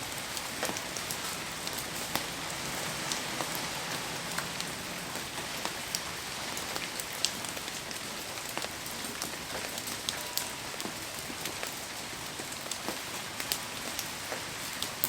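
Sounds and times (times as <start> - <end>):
heavy rain hiss: 0.0 - 15.0
raindrops ticking nearby: 0.0 - 15.0.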